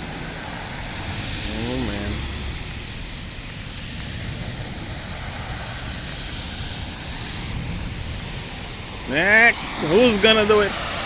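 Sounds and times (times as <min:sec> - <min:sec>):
low engine rumble: 0:00.0 - 0:11.0
water spray and tyres rushing: 0:00.0 - 0:11.0.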